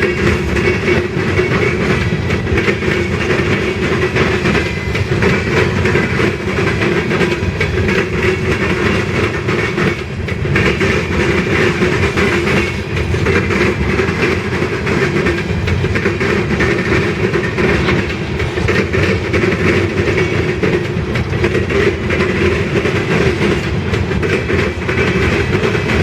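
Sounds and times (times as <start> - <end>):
freight train wheels rumbling: 0.0 - 26.0
wheels clicking over rail joints: 0.0 - 26.0.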